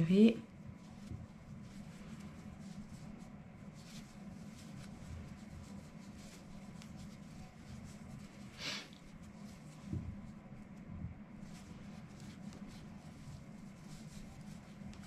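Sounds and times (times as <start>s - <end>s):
low steady hum: 0.0s - 15.0s
crochet hook scratching yarn: 0.8s - 9.9s, 11.4s - 15.0s.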